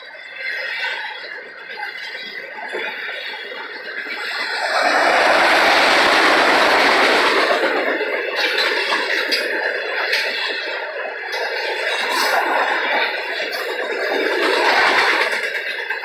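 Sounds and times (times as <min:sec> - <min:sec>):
freight train rolling past: 0:00.3 - 0:16.0.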